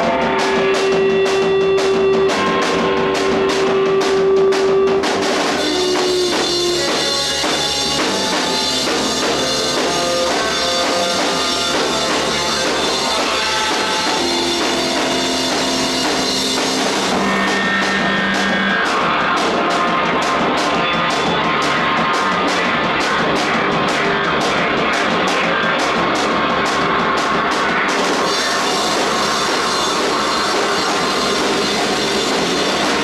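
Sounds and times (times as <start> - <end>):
drums steady beat: 0.0 - 33.0
rock band playing: 0.0 - 33.0.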